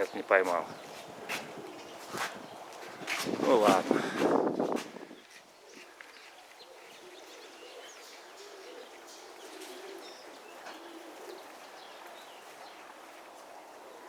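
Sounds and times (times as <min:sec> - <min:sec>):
pigeons cooing: 0:00.0 - 0:14.0
small birds chirping: 0:00.0 - 0:14.0.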